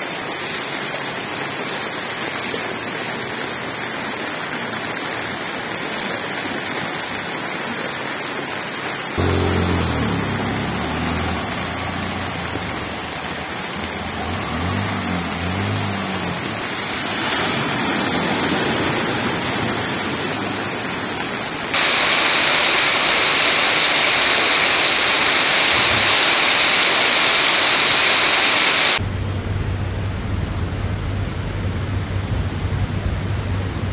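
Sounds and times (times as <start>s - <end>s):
heavy rain pouring: 0.0s - 29.0s
rushing floodwater: 0.0s - 29.0s.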